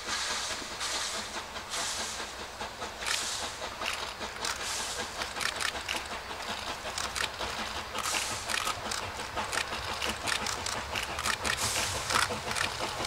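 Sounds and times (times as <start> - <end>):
steam hissing: 0.0 - 13.0
steam locomotive exhaust beats: 0.0 - 13.0.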